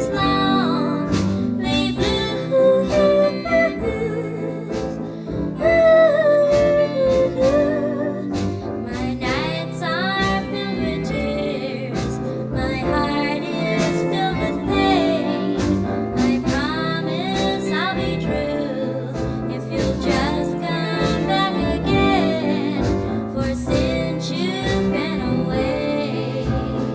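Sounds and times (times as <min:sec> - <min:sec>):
backing band guitar and drums: 0:00.0 - 0:26.9
woman singing pop ballad: 0:00.0 - 0:26.9.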